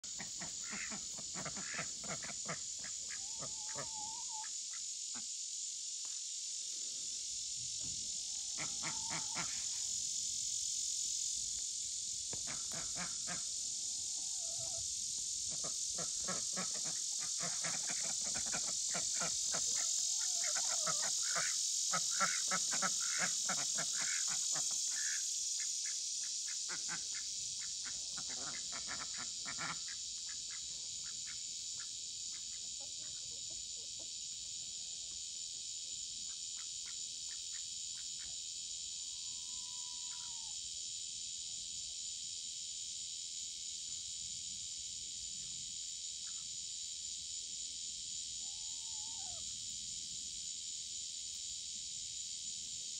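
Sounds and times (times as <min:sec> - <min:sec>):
insects chirring: 0:00.0 - 0:52.9.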